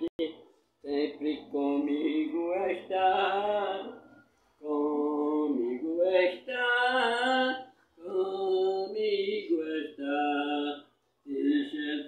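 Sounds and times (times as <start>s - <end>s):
elderly woman singing unaccompanied: 0.9s - 4.0s, 4.6s - 12.0s.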